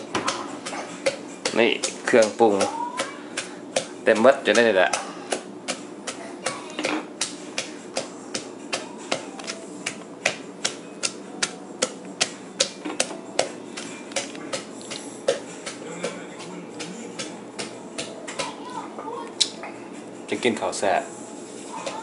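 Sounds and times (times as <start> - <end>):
pestle pounding in clay mortar: 0.0 - 18.8.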